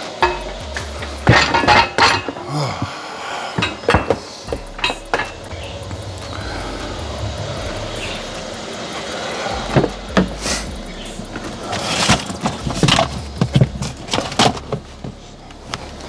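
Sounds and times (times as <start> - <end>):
metal knocks and clanks: 0.0 - 2.4, 3.6 - 15.2
low hum: 0.0 - 16.0.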